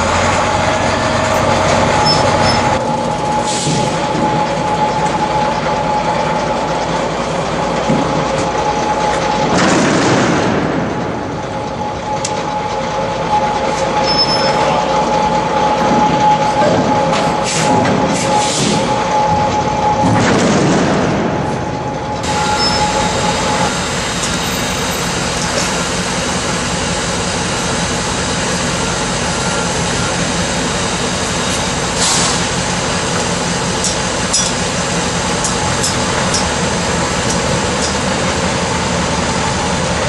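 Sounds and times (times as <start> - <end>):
heavy machinery running: 0.0 - 40.0
high mechanical whine: 0.0 - 40.0.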